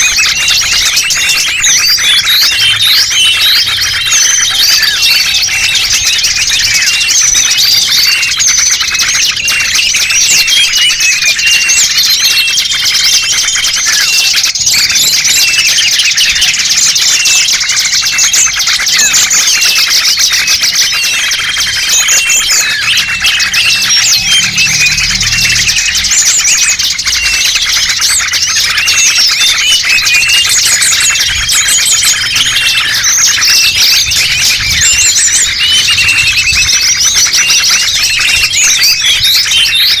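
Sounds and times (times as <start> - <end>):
songbirds chirping chorus: 0.0 - 40.0.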